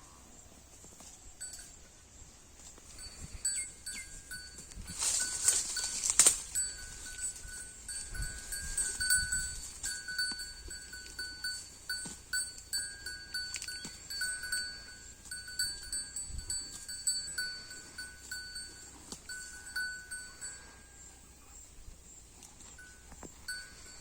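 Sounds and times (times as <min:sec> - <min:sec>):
cow grazing: 0:00.0 - 0:24.0
small bell tinkling: 0:01.4 - 0:01.9, 0:02.9 - 0:21.6, 0:22.6 - 0:24.0.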